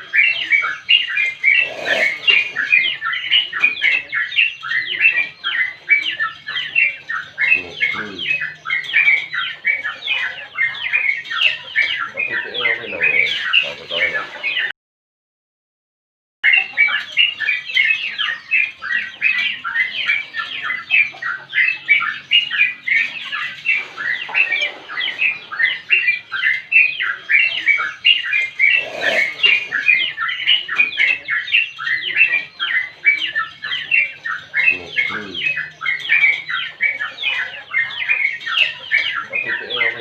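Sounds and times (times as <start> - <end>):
bird singing rapid chattering notes: 0.0 - 14.7, 16.4 - 40.0.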